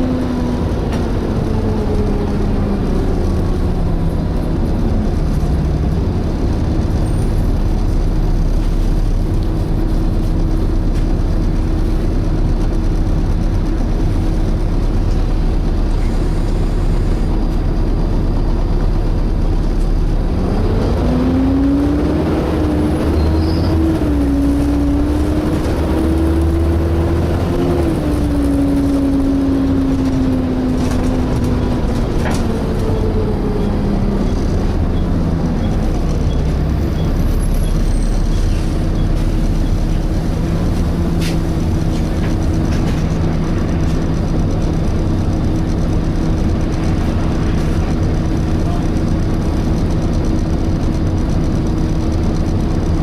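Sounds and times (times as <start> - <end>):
bus drone and fan whine: 0.0 - 53.0
rising whine of accelerating bus: 0.0 - 53.0.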